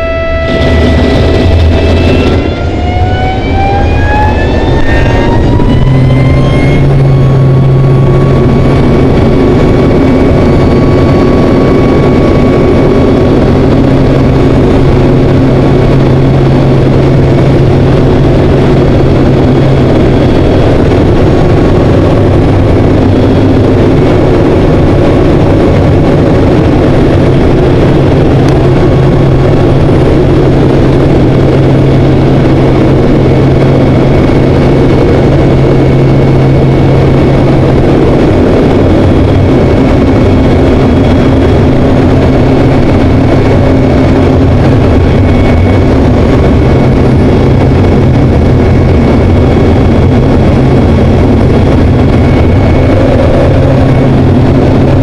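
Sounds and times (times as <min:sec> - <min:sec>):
loud rush of air: 0:00.0 - 0:55.0
turboprop engine and propeller: 0:00.0 - 0:55.0.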